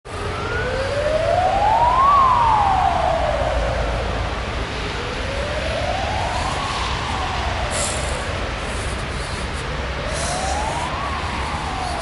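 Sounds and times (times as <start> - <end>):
siren wailing: 0.1 - 9.0, 9.8 - 12.0.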